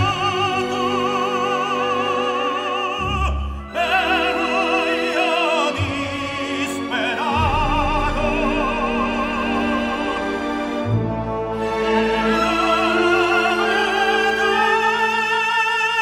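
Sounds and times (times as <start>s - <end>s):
operatic singing: 0.0s - 16.0s
orchestral accompaniment: 0.0s - 16.0s.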